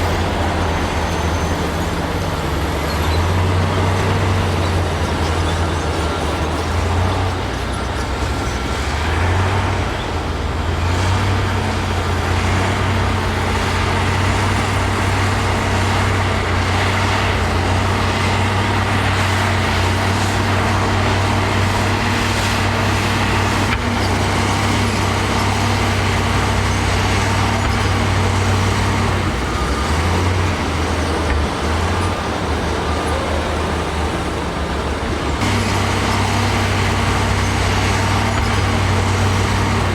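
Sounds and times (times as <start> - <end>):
heavy diesel engine humming: 0.0 - 39.9.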